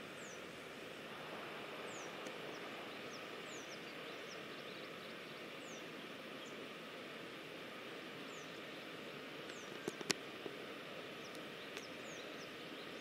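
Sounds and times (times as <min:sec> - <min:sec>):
distant waterfall rushing: 0:00.0 - 0:13.0.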